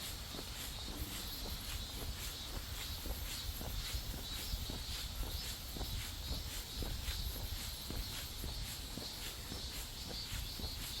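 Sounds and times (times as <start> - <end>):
footsteps on path: 0.0 - 11.0
high-pitched hiss: 0.0 - 11.0.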